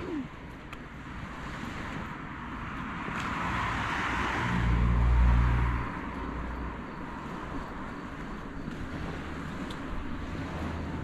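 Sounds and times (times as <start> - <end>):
car passing by: 1.0 - 11.0.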